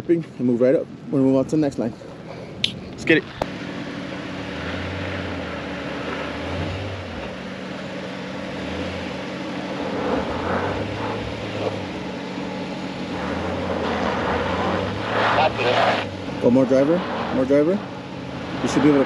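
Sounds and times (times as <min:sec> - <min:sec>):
engine running at low speed: 0:00.0 - 0:19.0.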